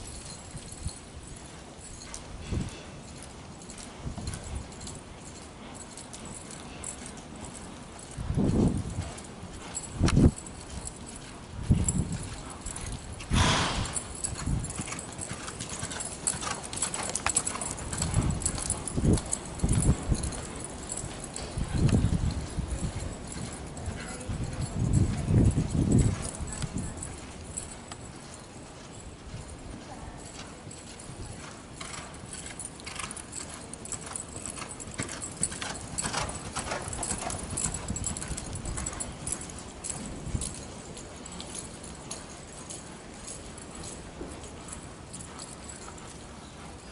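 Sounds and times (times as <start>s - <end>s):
metallic tack jingling: 0.0s - 46.2s
hoofbeats on soft dirt: 0.0s - 46.9s.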